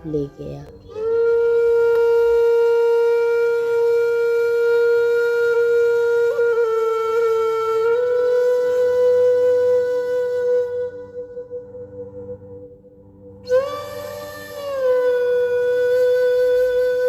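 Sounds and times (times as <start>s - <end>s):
wind instrument long note: 0.0s - 12.8s, 13.4s - 17.0s.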